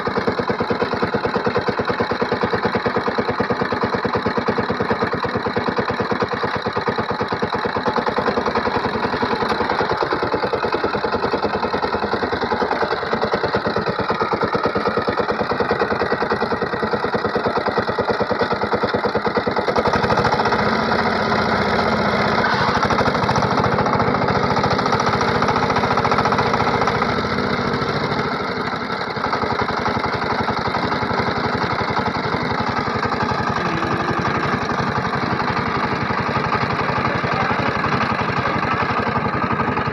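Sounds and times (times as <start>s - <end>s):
power tiller diesel engine running: 0.0s - 39.9s.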